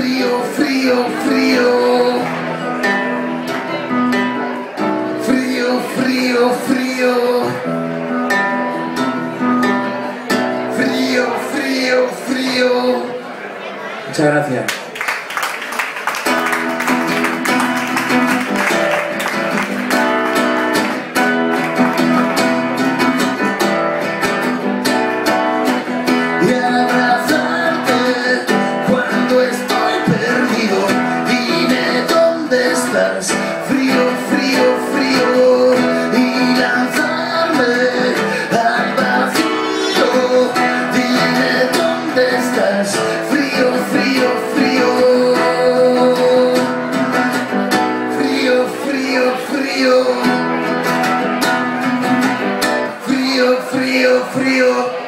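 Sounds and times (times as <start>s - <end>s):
acoustic guitar: 0.0s - 14.2s, 15.7s - 55.0s.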